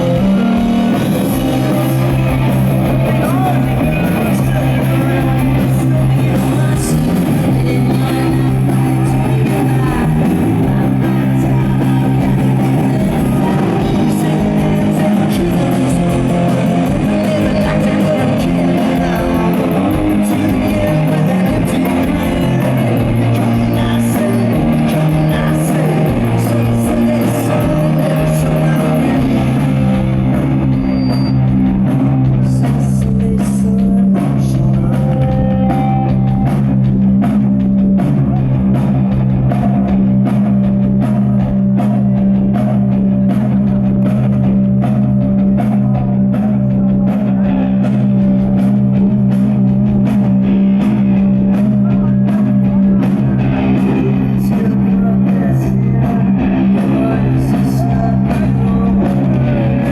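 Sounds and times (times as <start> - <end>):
heavy guitars and bass: 0.0 - 59.9
steady drum beat: 0.0 - 59.9.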